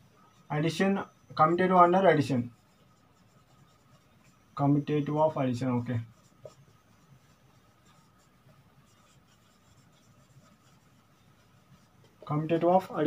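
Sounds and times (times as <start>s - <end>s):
marker writing on whiteboard: 0.0s - 13.0s.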